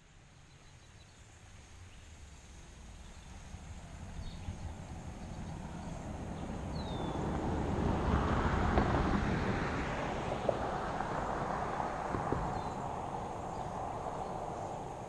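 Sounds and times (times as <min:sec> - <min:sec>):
wind rumbling on microphone: 0:02.5 - 0:15.0.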